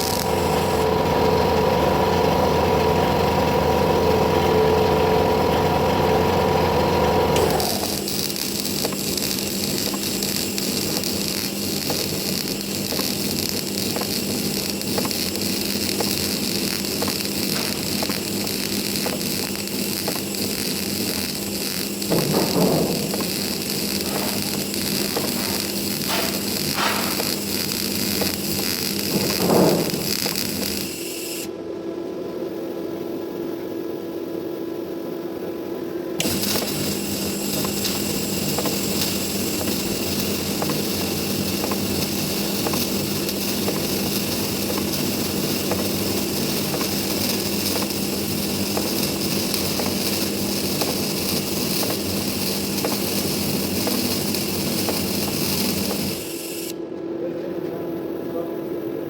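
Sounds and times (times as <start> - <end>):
welding arc crackling: 0.0 - 31.5, 36.2 - 56.8
steady hum: 0.0 - 59.0.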